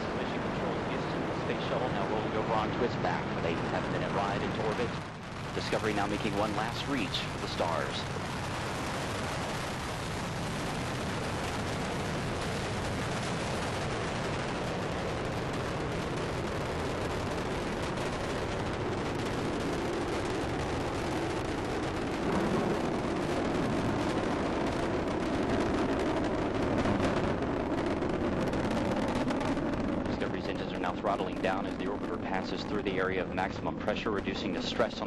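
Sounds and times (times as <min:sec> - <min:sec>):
crackling rocket engine roar: 0:00.0 - 0:35.0.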